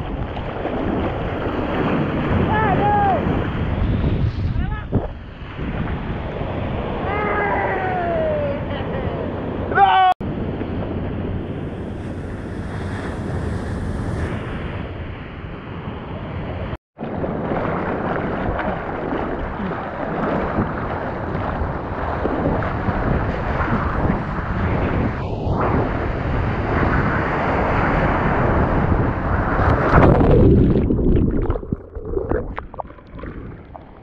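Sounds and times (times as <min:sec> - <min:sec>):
seawater rushing and splashing: 0:00.0 - 0:04.4, 0:05.1 - 0:09.8, 0:10.5 - 0:34.0
wind buffeting microphone: 0:00.0 - 0:34.0.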